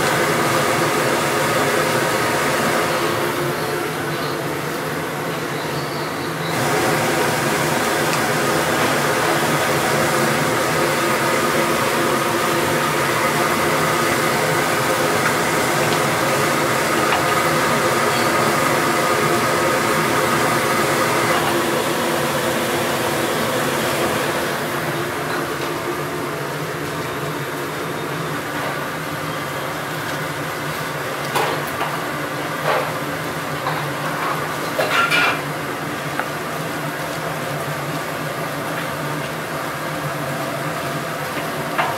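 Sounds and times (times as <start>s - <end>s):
kitchen machinery humming: 0.0s - 41.9s.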